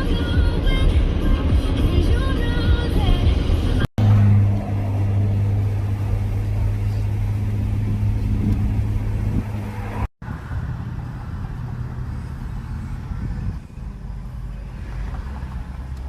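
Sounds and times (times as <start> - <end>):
car engine hum and road rumble: 0.0 - 16.0.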